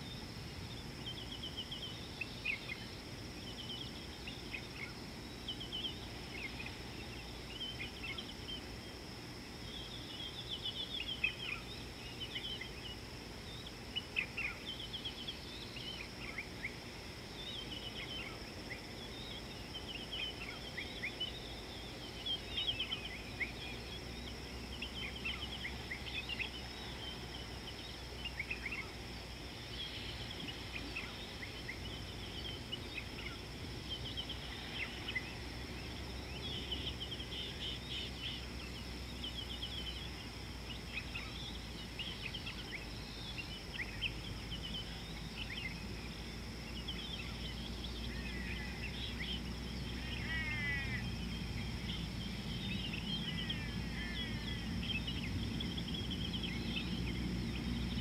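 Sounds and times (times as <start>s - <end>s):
low outdoor rumble: 0.0s - 58.0s
small birds chirping: 0.0s - 58.0s.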